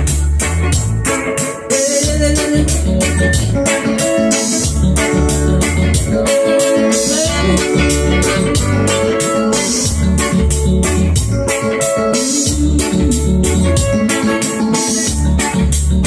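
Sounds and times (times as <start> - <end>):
steady drum beat: 0.0 - 11.6, 12.2 - 15.9
electric guitar: 0.0 - 16.0
heavy bass line: 0.0 - 16.0
organ-like keyboard chords: 0.0 - 16.0.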